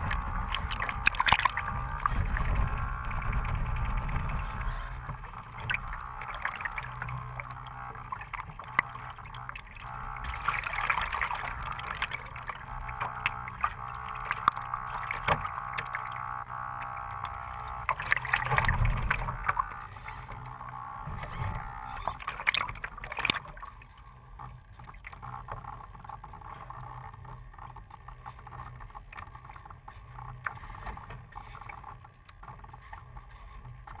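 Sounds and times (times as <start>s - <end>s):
small clicks: 0.0s - 34.0s
steady whine: 0.0s - 34.0s.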